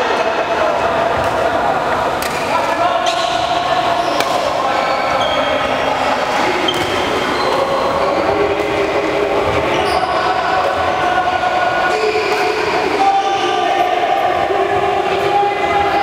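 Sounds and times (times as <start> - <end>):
indoor hall din: 0.0 - 16.0.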